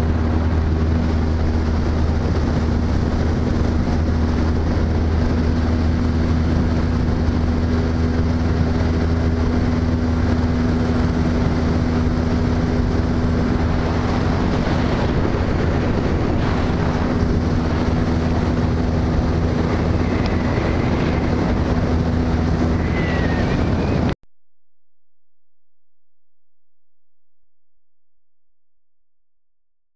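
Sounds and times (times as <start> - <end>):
water rushing: 0.0 - 24.1
motorboat engine running: 0.0 - 24.2
wind rushing: 0.0 - 24.2.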